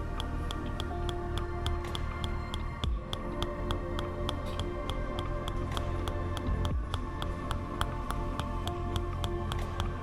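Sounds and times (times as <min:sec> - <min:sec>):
background music: 0:00.0 - 0:10.0
wooden mallet tapping wood: 0:00.0 - 0:10.0.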